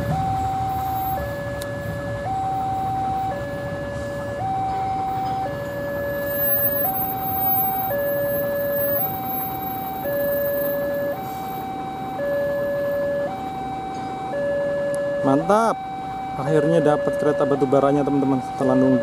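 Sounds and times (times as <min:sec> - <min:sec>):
level crossing two-tone alarm: 0:00.0 - 0:19.0.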